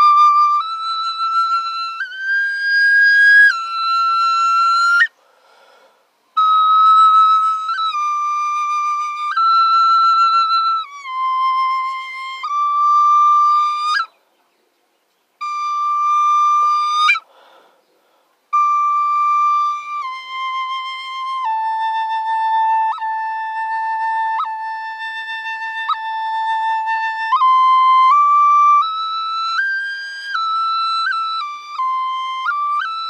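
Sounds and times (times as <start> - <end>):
small flute playing slowly: 0.0 - 5.2, 6.2 - 14.2, 15.4 - 17.3, 18.5 - 33.0.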